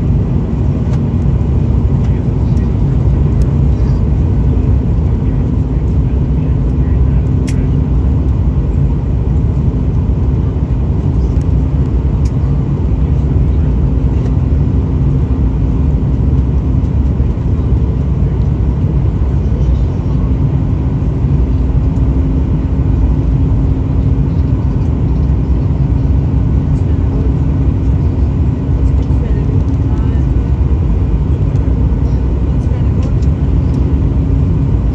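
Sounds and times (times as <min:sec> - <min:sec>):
airliner cabin low rumble: 0:00.0 - 0:34.9
constant hum: 0:00.0 - 0:34.9.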